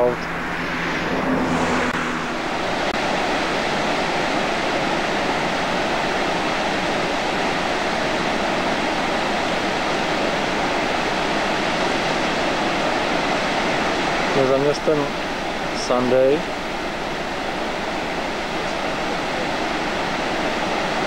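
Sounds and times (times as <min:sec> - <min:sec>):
waterfall rushing: 0:00.1 - 0:21.0.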